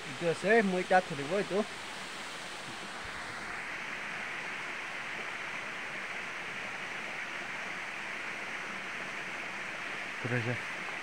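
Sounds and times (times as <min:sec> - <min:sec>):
night outdoor ambience hiss: 0:00.0 - 0:11.0.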